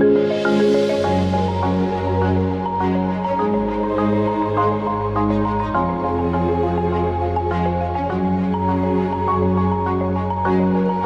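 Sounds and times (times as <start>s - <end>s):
soft electronic music: 0.0s - 11.0s.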